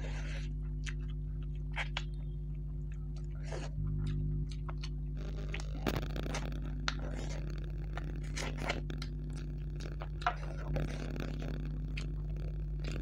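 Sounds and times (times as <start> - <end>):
steady low hum: 0.0 - 13.0
wet chewing and lip smacks: 0.0 - 13.0.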